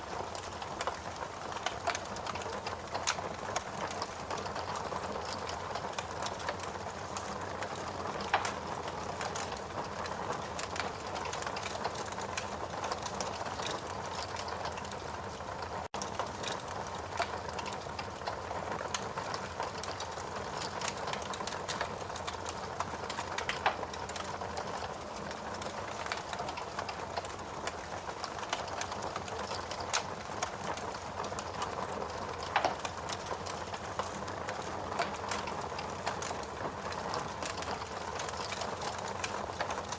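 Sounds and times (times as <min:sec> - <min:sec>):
wood fire hissing and crackling: 0:00.0 - 0:39.9
fire popping: 0:00.1 - 0:39.9.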